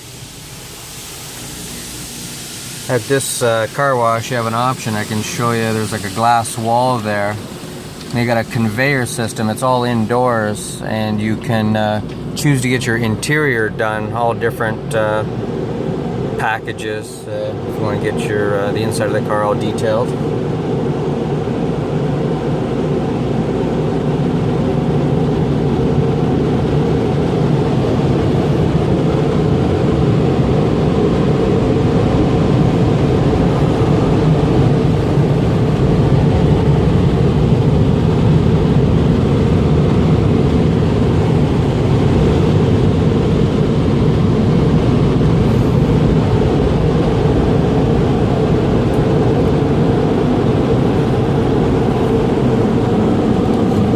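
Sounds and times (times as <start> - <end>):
air-dryer blowers rushing: 0.0 - 53.9.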